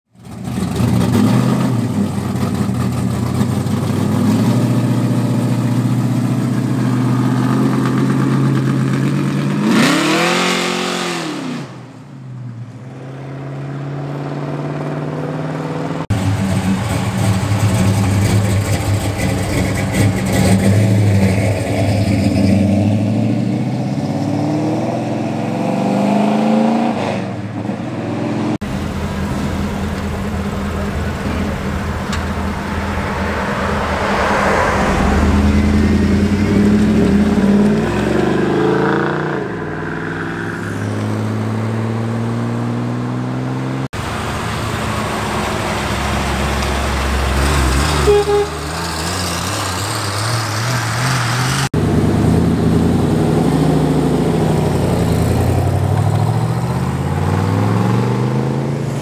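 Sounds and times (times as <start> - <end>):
car engine revving: 0.2 - 12.0, 12.7 - 59.0.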